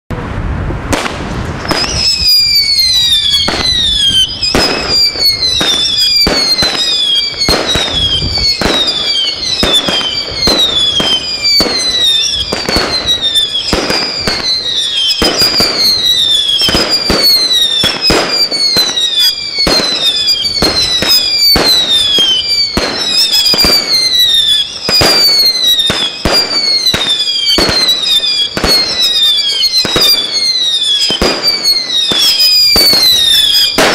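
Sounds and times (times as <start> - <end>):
firework bangs and cracks: 0.1 - 33.9
whistling firework shots: 0.8 - 33.9.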